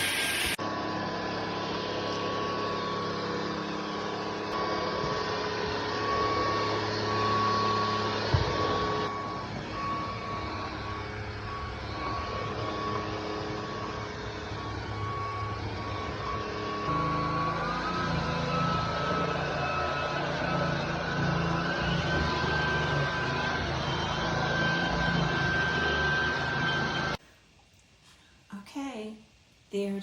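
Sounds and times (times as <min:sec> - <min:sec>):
stick vacuum running: 0:00.0 - 0:27.2.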